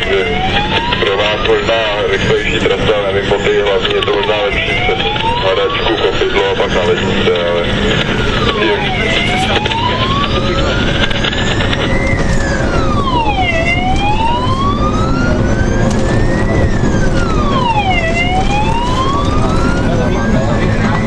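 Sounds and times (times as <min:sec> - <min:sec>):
engine and road rumble: 0:00.0 - 0:21.0
fire engine wail siren: 0:00.0 - 0:21.0.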